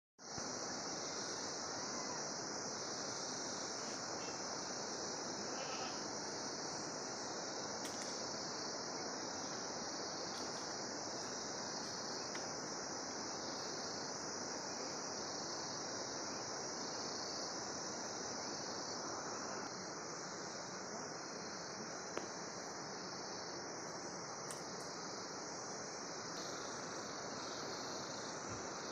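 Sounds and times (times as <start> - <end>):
high-pitched insect chorus: 0.2 - 28.9
low background hiss: 0.2 - 28.9.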